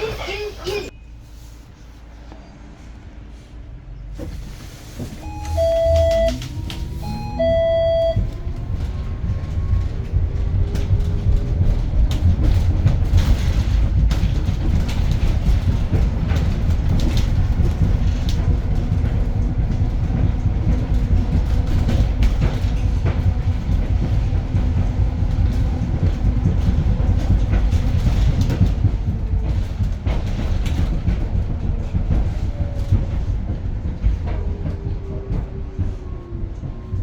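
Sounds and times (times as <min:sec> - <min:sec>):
road and tyre rumble: 0:00.9 - 0:37.0
bus body rattles and knocks: 0:04.1 - 0:37.0.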